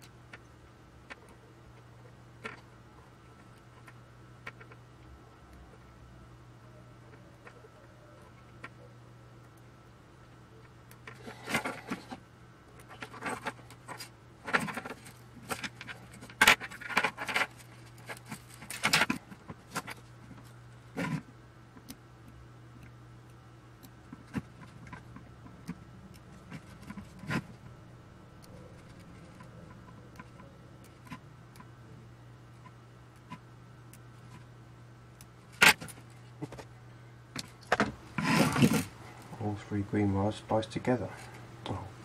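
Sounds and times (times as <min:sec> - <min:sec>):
wires rustling and scraping: 0:00.0 - 0:42.0.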